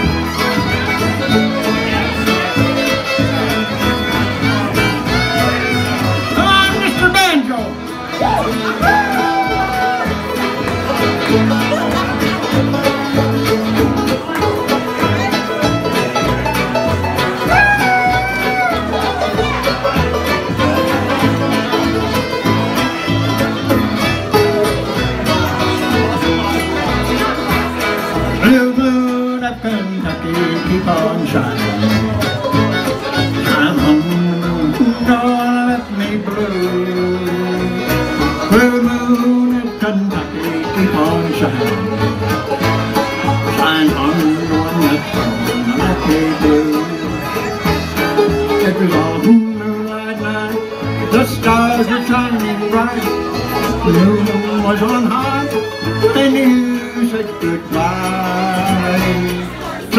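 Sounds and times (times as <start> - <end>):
acoustic guitars: 0.0 - 59.9
banjo: 0.0 - 59.9
fiddle: 0.0 - 59.9
mandolin: 0.0 - 59.9
upright bass: 0.0 - 59.9.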